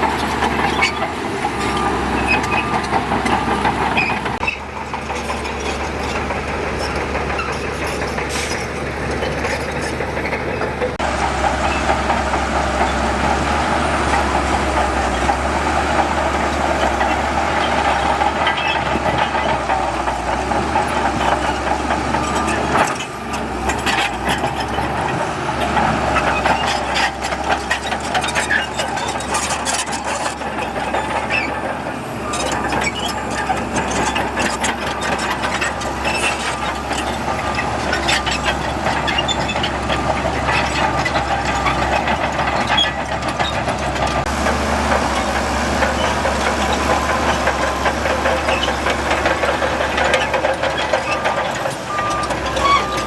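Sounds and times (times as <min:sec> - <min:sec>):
heavy diesel machinery running: 0:00.0 - 0:53.0
metallic clanks and rattles: 0:00.0 - 0:53.0.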